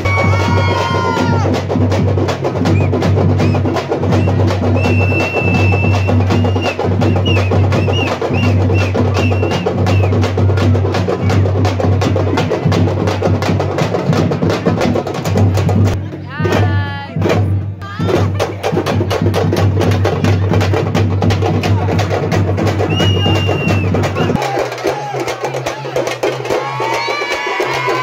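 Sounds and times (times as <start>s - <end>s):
drums in a fast rhythm: 0.0s - 28.0s.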